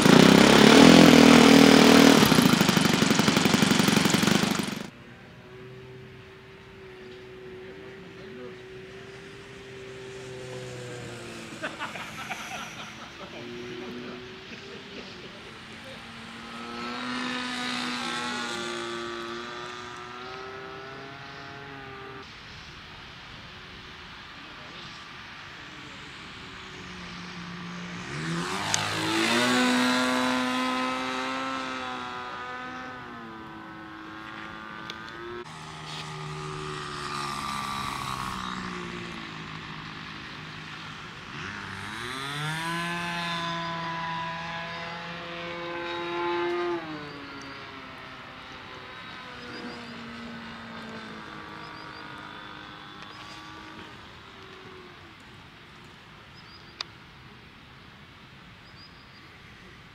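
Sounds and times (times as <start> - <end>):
model airplane engine in flight: 0.0 - 57.4.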